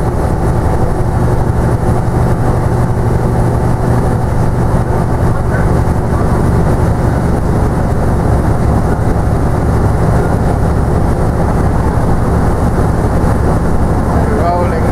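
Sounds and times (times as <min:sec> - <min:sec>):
bus diesel engine drone: 0:00.0 - 0:14.9.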